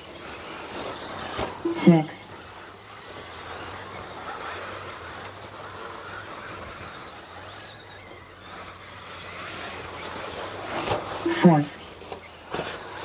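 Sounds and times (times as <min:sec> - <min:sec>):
motor whines: 0:00.0 - 0:13.0
rc truck motors and tyres: 0:00.0 - 0:13.0.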